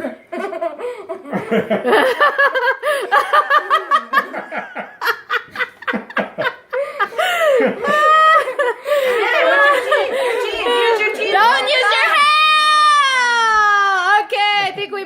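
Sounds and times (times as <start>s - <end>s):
people laughing: 0.0s - 13.6s.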